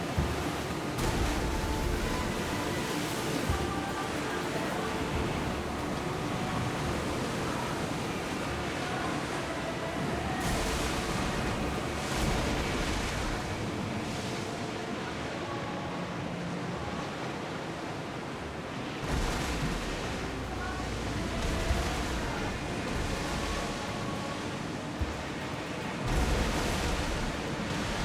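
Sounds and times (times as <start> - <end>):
sea waves washing: 0.0 - 28.0.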